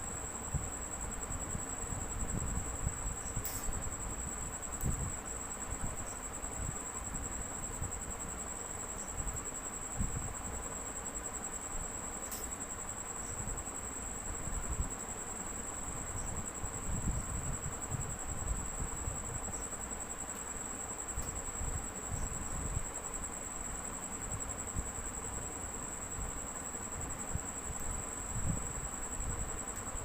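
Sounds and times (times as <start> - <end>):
constant hiss: 0.0 - 30.0
high-pitched insect trill: 0.0 - 30.0.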